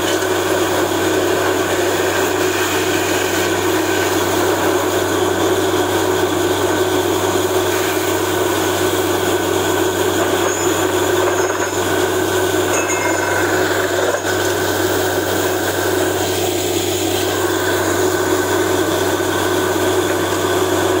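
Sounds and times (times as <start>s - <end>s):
drilling rig droning: 0.0s - 21.0s.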